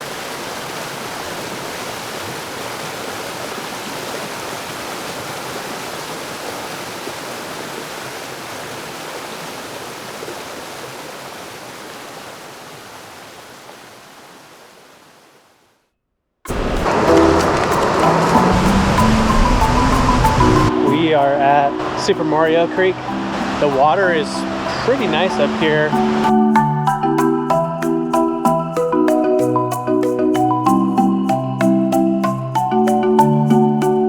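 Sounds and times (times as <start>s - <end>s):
creek water rushing: 0.0s - 15.7s, 16.5s - 29.4s.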